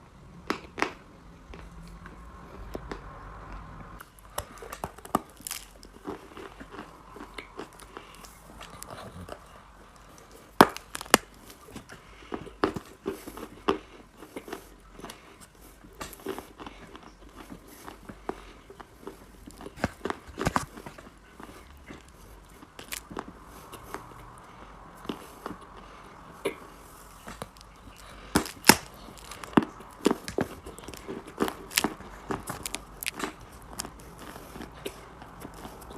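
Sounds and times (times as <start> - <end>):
soft crackly chewing: 0.2 - 35.9
chalk crunching between teeth: 4.2 - 24.4, 25.0 - 35.9.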